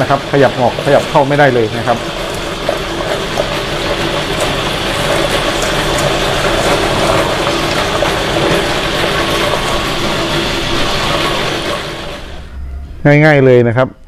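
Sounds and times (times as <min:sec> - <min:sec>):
grinding machine crushing chilies: 0:00.0 - 0:12.5.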